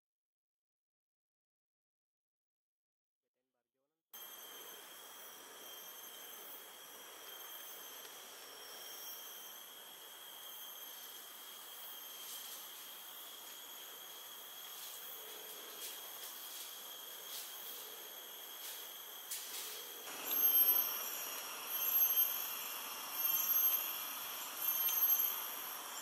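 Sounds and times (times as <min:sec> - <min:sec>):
high-pitched whining tones: 0:04.2 - 0:26.0
insects droning: 0:04.2 - 0:26.0.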